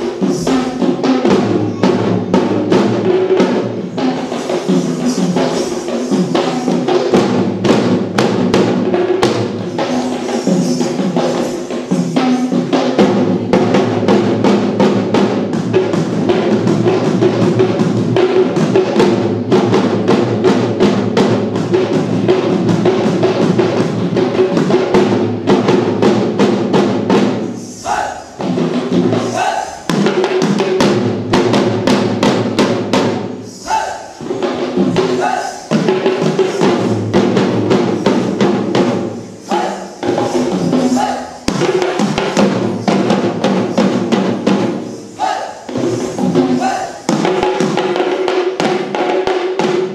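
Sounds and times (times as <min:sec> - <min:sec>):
ensemble of drums playing fast: 0:00.0 - 0:49.9.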